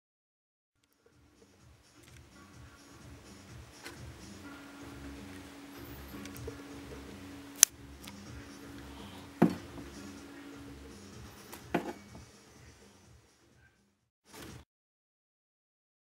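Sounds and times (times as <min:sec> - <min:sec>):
faint steady hum: 0:00.9 - 0:13.8.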